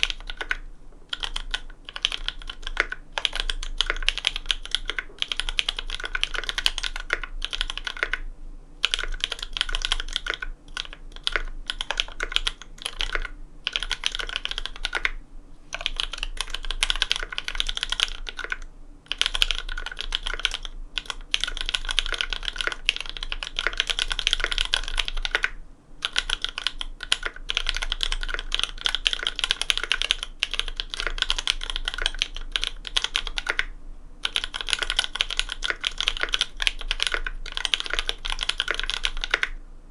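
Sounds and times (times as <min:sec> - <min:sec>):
fast mechanical keyboard typing: 0:00.0 - 0:08.2, 0:08.8 - 0:39.6.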